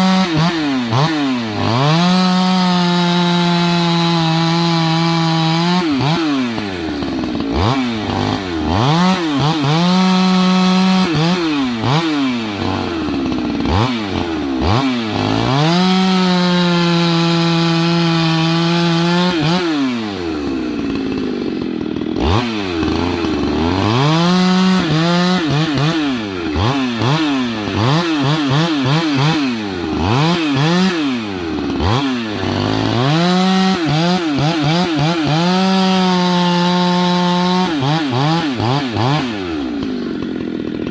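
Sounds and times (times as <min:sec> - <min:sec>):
chainsaw revving cutting wood: 0:00.0 - 0:40.9.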